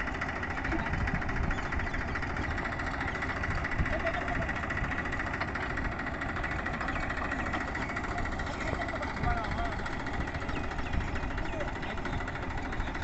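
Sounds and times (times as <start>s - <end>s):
tractor diesel engine running: 0.0s - 13.0s
faint voices: 0.5s - 13.0s.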